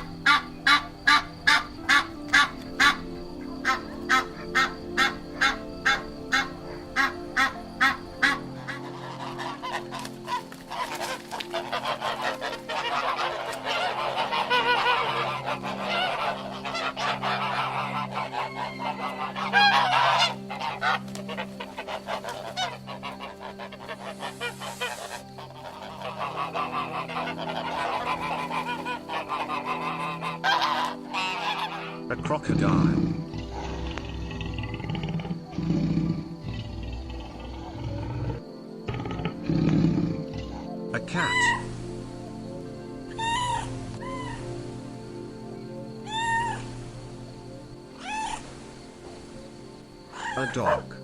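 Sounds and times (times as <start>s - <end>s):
geese honking: 0.0s - 39.5s, 40.1s - 51.0s.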